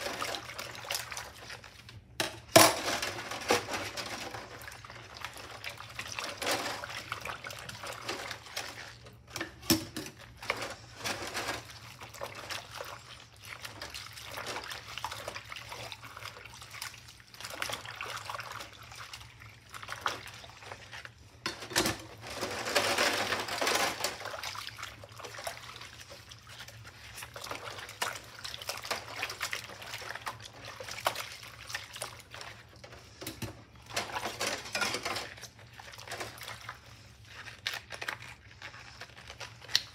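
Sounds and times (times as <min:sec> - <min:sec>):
water sloshing in sink: 0:00.0 - 0:39.9.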